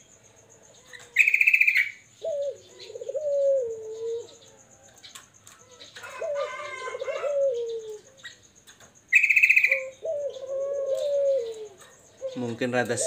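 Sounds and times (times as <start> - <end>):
dove cooing: 0.0 - 13.0
faint bird chirping: 0.0 - 13.0
bird rapid trill: 0.9 - 4.6, 5.8 - 13.0.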